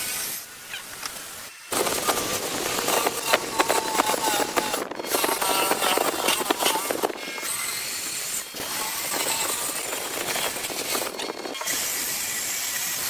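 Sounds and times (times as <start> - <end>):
tool running with hiss: 0.0 - 13.0.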